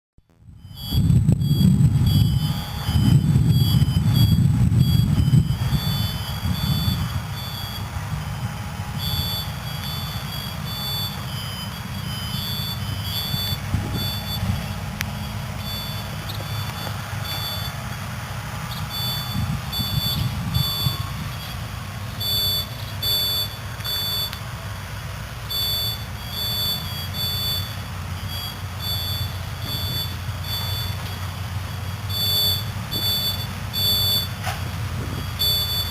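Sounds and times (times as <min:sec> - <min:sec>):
low engine rumble: 0:00.2 - 0:35.9
vehicle backup alarms beeping: 0:00.3 - 0:35.9.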